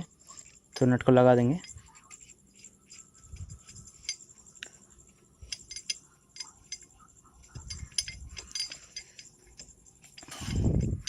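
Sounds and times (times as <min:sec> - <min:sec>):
metallic clinks of hand tools: 0:00.0 - 0:11.0.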